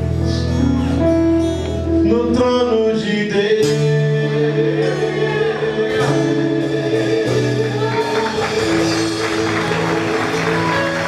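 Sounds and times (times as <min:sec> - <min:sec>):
worship band music: 0:00.0 - 0:11.0.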